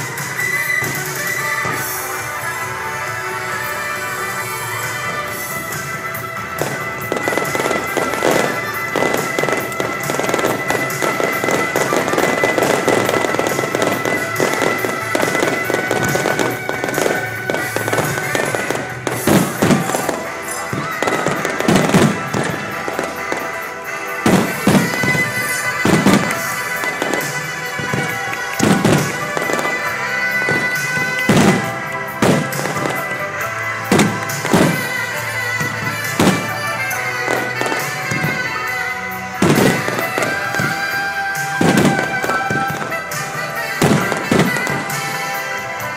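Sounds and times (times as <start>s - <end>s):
fireworks crackling: 0.0s - 45.9s
music with long held tones: 0.0s - 45.9s
loud firework shell bursts: 4.2s - 45.9s.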